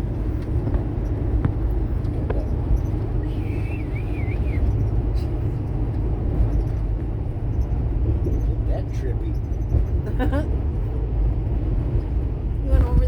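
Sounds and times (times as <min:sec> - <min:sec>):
engine and road rumble in cab: 0:00.0 - 0:13.0.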